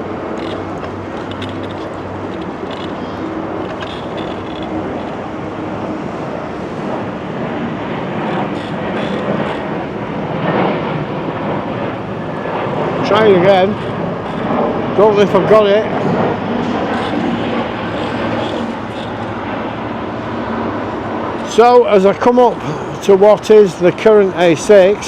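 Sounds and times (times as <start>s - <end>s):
jet airliner rumble: 0.0s - 25.0s
street traffic: 0.0s - 25.0s.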